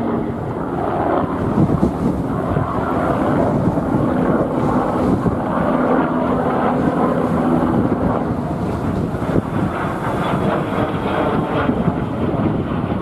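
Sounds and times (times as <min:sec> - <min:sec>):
helicopter rotor and turbine drone: 0:00.0 - 0:13.0.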